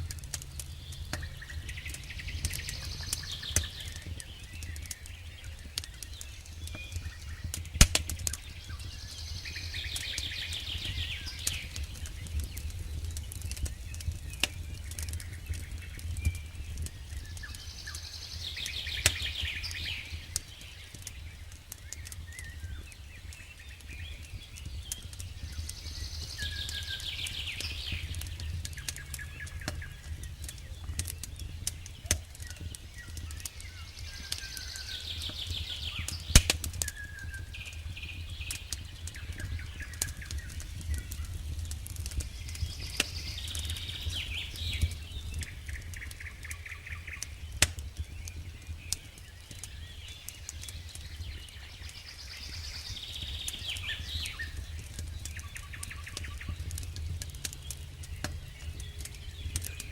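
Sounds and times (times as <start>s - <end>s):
campfire wood crackling and popping: 0.0s - 59.9s
songbird singing trills: 0.0s - 59.9s.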